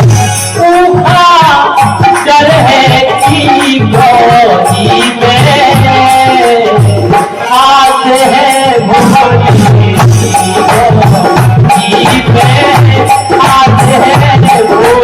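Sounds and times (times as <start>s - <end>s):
hand drum beats: 0.0s - 15.0s
jingling rattling percussion: 0.0s - 15.0s
person singing: 0.0s - 15.0s.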